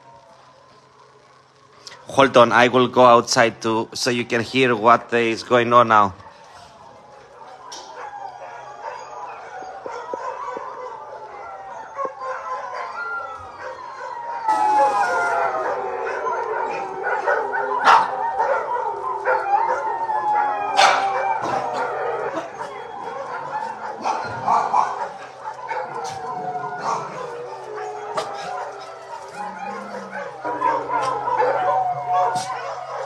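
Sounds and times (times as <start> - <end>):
many dogs howling: 0.0 - 33.0
dogs barking: 6.1 - 33.0.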